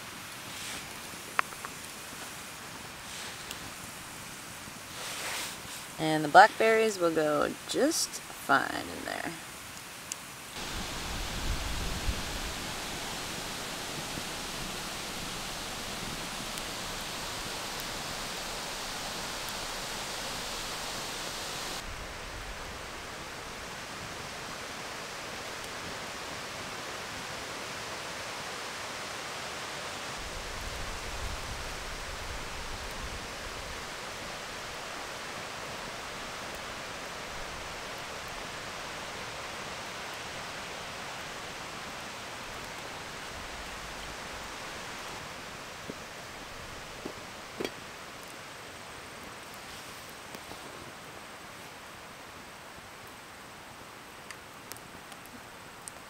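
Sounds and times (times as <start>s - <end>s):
rushing outdoor noise: 0.0s - 56.0s.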